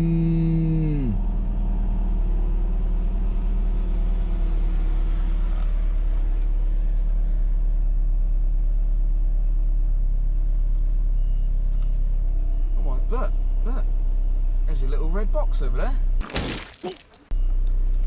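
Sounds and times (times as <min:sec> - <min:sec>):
car engine heard from cabin: 0:00.0 - 0:16.2.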